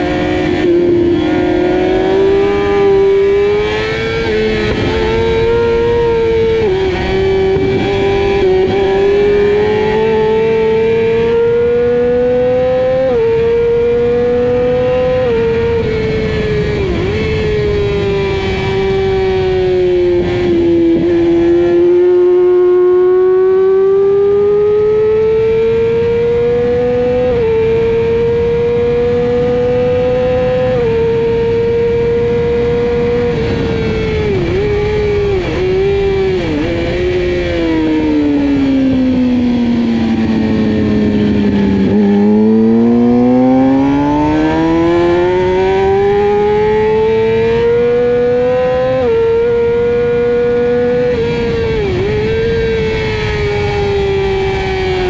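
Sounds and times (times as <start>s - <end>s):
motorcycle engine at racing revs: 0.0s - 55.0s.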